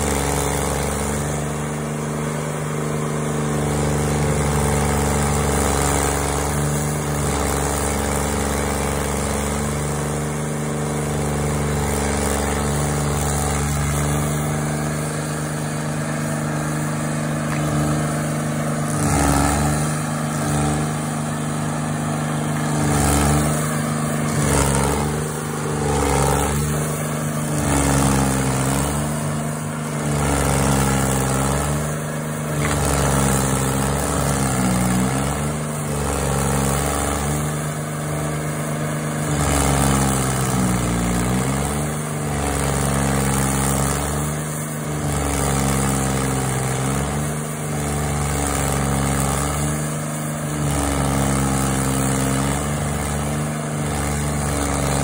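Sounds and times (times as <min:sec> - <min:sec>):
cutter wheel grinding wood: 0:00.0 - 0:55.0
stump grinder engine running hard: 0:00.0 - 0:55.0.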